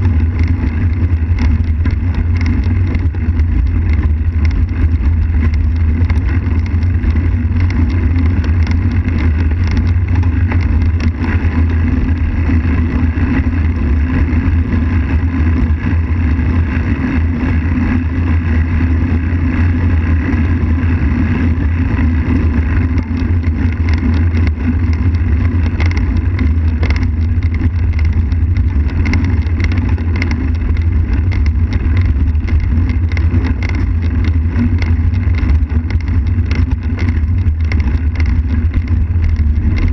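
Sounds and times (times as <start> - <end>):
small clicks from road bumps: 0.0 - 39.9
wind buffeting microphone: 0.0 - 39.9.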